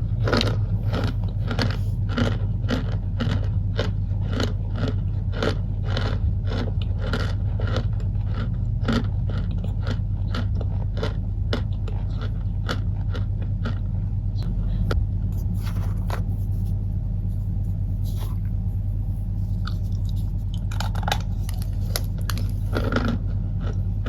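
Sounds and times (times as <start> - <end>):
constant low hum: 0.0 - 24.0
cornstarch crunching: 0.1 - 13.8, 15.4 - 24.0.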